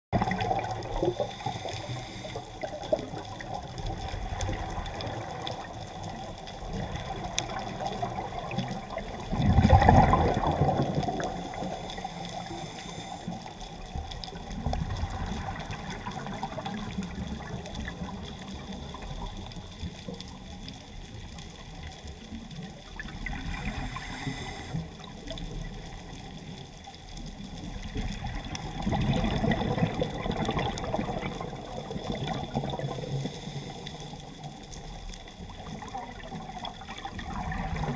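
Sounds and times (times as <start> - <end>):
muffled underwater water rush: 0.1 - 37.9.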